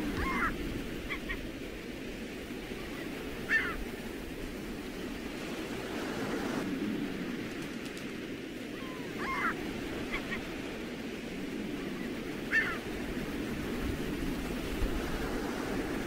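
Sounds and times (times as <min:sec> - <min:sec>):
surf: 0:00.0 - 0:16.0
wind: 0:00.0 - 0:16.0.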